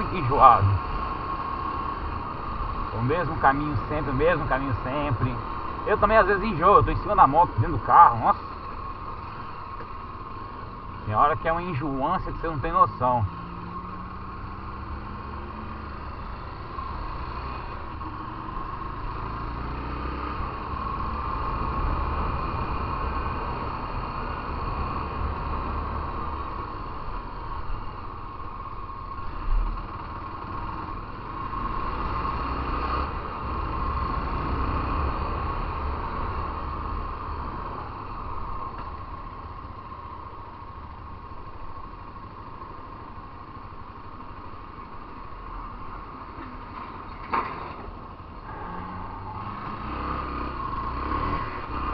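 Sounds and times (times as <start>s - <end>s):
wind and road noise: 0.0s - 51.9s.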